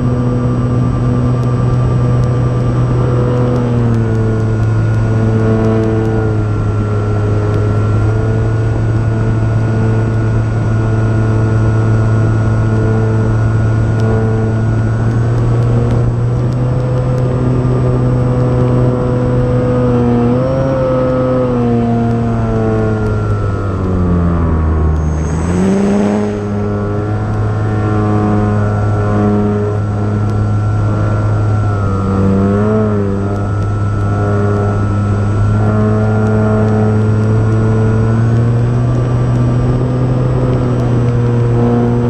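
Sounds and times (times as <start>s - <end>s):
model plane motor and propeller: 0.0s - 42.0s.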